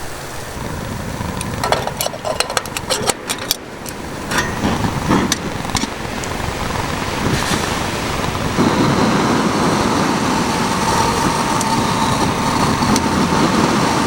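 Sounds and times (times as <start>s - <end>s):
gas flame hissing: 0.0s - 14.0s.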